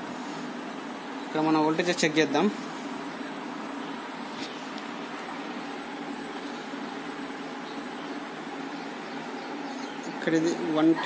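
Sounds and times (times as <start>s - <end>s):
room noise hiss and hum: 0.0s - 11.0s.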